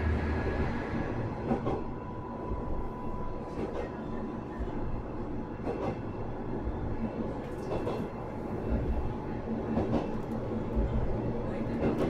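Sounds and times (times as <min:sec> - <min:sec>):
diesel railcar engine rumble: 0:00.0 - 0:12.0.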